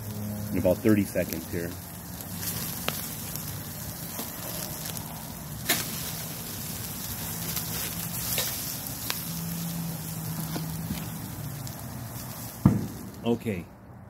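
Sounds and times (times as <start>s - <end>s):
steaks sizzling on a grill: 0.0s - 13.2s
wood fire crackles: 0.0s - 13.9s.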